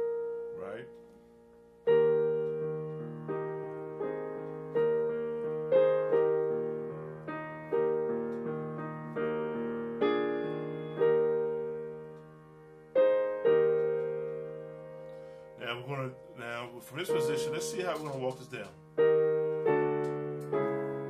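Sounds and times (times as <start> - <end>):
digital piano playing hymn chords: 0.0 - 21.0.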